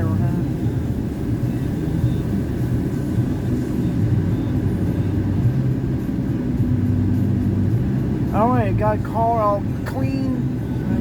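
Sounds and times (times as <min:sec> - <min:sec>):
car wash mechanical rumble: 0:00.0 - 0:11.0.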